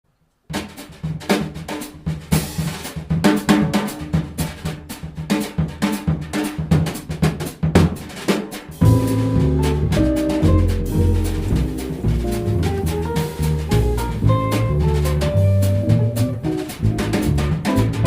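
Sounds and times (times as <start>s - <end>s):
jazz drum kit playing: 0.5s - 18.0s.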